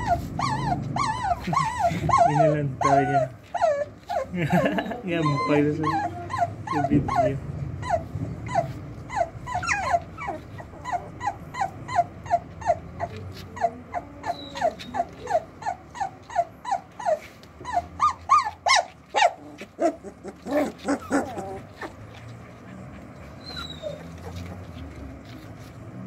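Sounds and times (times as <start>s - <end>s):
puppy whimpering: 0.0s - 26.0s.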